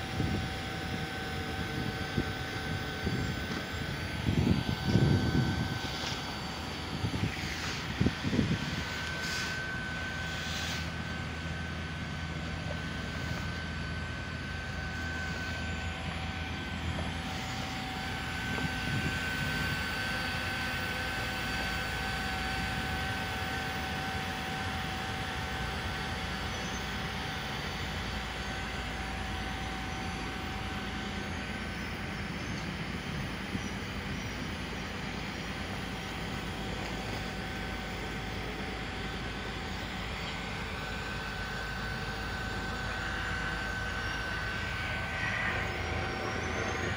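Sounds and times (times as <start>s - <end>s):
high whine: 0.0s - 46.9s
hot-air welder blower rushing: 0.0s - 46.9s.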